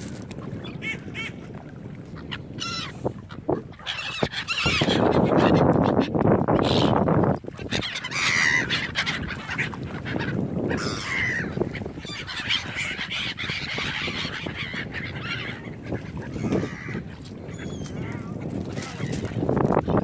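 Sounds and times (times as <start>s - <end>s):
gulls calling: 0.4s - 20.0s.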